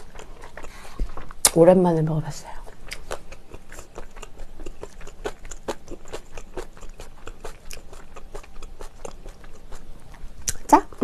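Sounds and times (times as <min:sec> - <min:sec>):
person chewing food: 0:00.0 - 0:01.5, 0:02.6 - 0:10.7.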